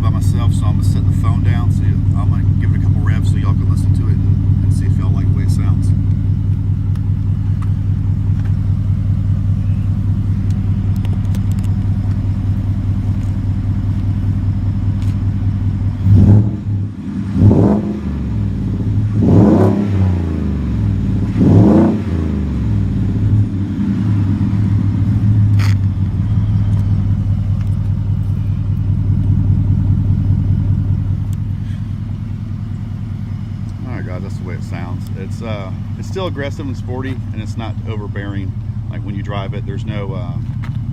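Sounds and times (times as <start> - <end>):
pickup truck engine idling and revving: 0.0 - 40.9.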